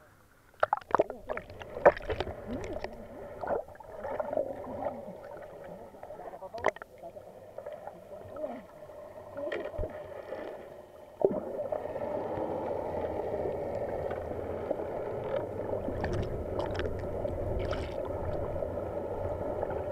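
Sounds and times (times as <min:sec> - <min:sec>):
muffled underwater rush: 0:00.0 - 0:19.9.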